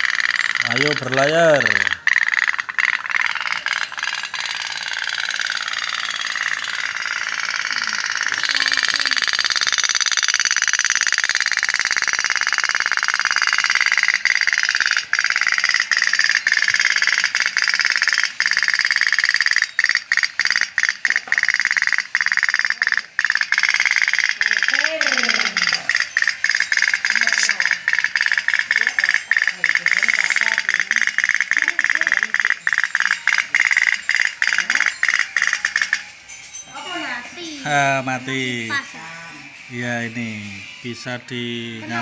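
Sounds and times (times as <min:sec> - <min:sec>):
toy steam boat engine rattle: 0:00.0 - 0:38.9.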